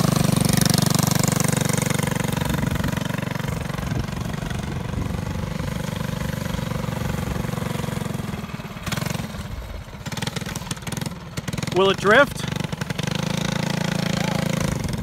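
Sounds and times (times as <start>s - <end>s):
kart engine running: 0.0s - 15.0s.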